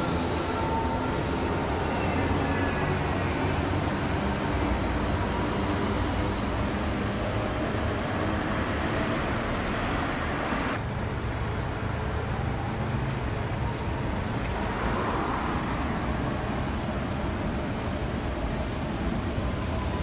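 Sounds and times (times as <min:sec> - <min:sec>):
street traffic passing: 0:00.0 - 0:20.0.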